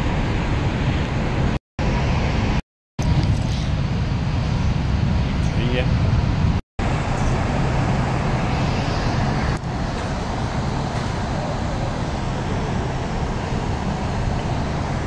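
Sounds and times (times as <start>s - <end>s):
low rumbling noise with hiss: 0.0s - 15.0s.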